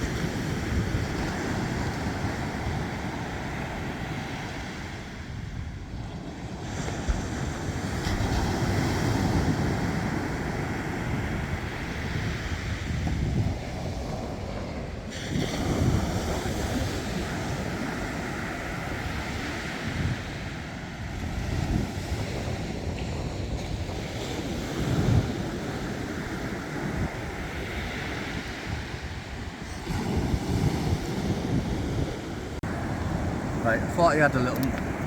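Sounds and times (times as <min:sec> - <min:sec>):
waves breaking on shore: 0:00.0 - 0:35.0
wind buffeting microphone: 0:00.0 - 0:35.0.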